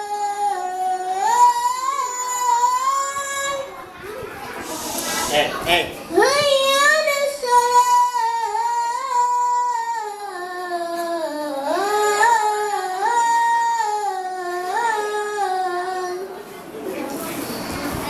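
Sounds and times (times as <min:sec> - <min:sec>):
boy chanting call to prayer: 0:00.0 - 0:17.6.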